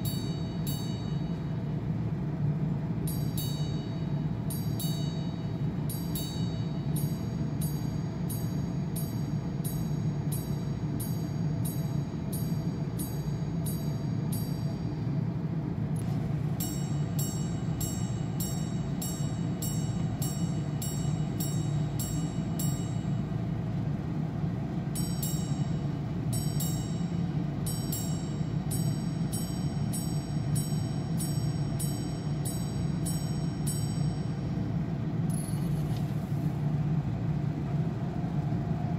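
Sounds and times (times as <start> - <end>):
watch chime hammers striking gongs: 0.0 - 1.9, 3.0 - 15.1, 16.6 - 23.6, 24.9 - 35.6
steady low hum: 0.0 - 38.9.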